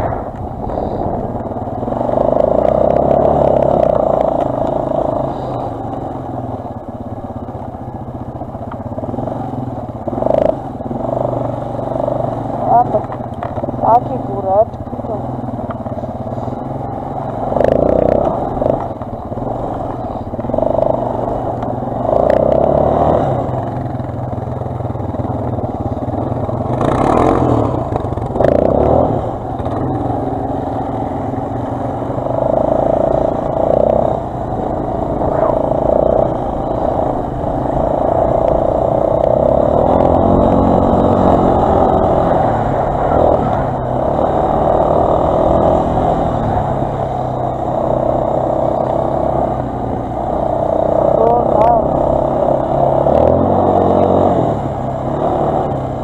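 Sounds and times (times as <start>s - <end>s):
quad bike engine surging: 0.0s - 56.0s.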